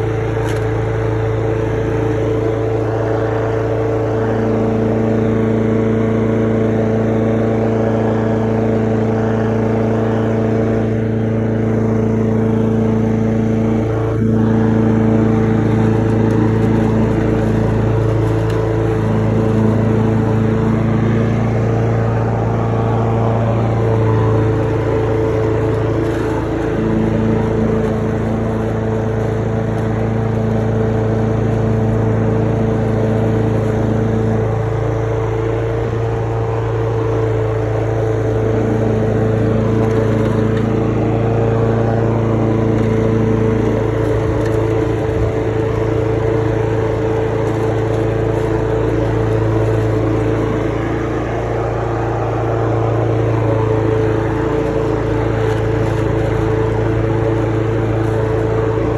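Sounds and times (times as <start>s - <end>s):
lawn mower engine running: 0.0s - 58.9s.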